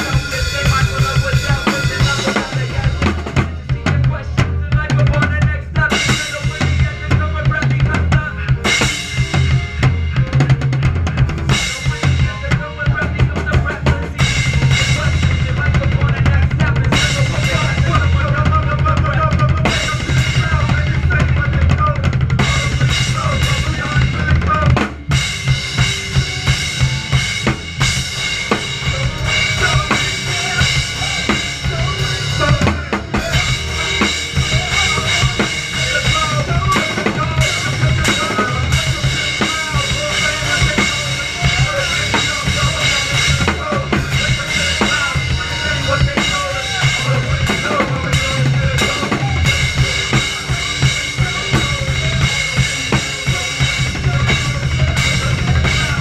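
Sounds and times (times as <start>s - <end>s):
drum kit groove: 0.0s - 56.0s
recorded music track: 0.0s - 56.0s.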